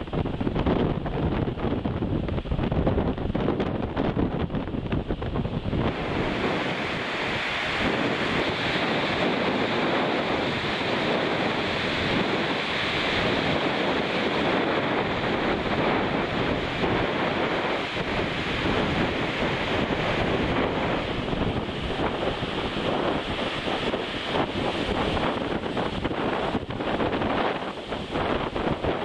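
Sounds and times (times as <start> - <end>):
storm wind through trees: 0.0 - 29.0
wind buffeting microphone: 0.0 - 29.0.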